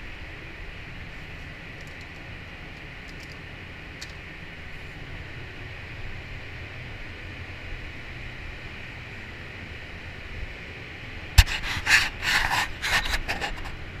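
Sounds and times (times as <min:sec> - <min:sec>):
ventilation hum and hiss: 0:00.0 - 0:14.0.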